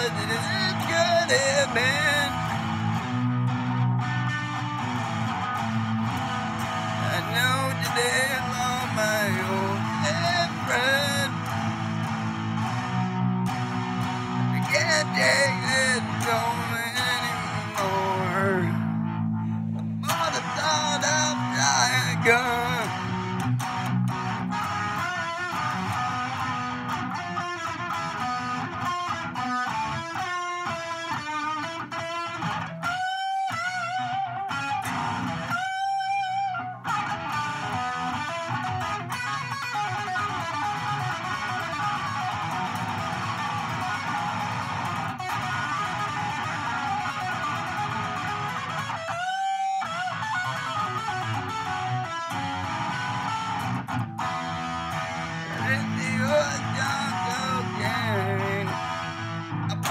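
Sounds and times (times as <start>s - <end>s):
electric guitar solo: 0.0s - 59.9s.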